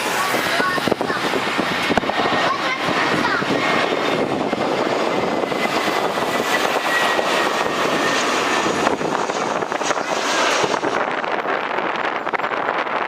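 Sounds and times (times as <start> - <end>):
high fan whine: 0.0 - 13.0
jet engines passing low: 0.0 - 13.0.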